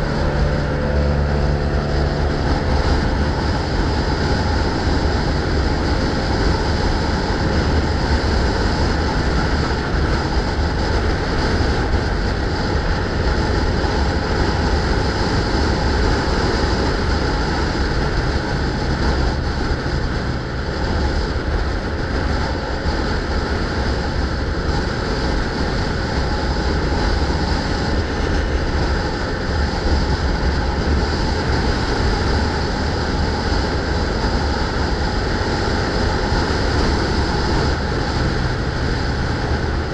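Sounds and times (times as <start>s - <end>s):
road noise: 0.0s - 39.9s
wind rushing on microphone: 0.0s - 39.9s.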